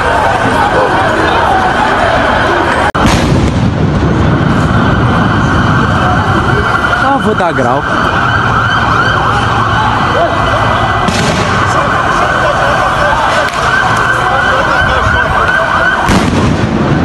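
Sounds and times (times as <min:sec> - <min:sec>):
loud bursts of noise: 0:00.0 - 0:17.0
sirens warbling: 0:00.0 - 0:17.0
street commotion din: 0:00.0 - 0:17.0.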